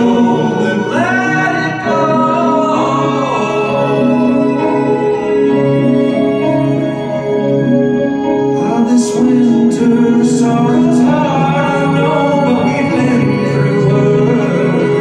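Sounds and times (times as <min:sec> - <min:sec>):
organ-like synth chords: 0:00.0 - 0:15.0
person singing: 0:00.0 - 0:15.0.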